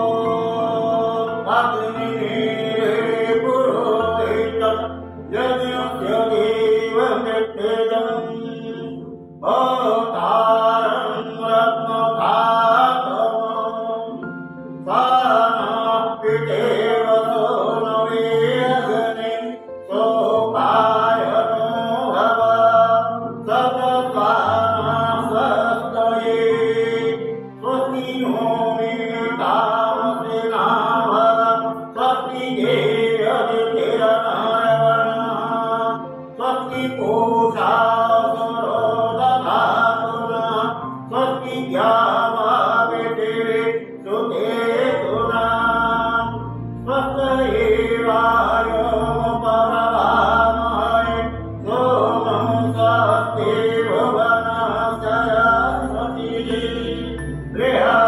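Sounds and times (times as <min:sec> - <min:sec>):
instrumental accompaniment with bass: 0:00.0 - 0:58.0
mantra chanting: 0:00.0 - 0:58.0.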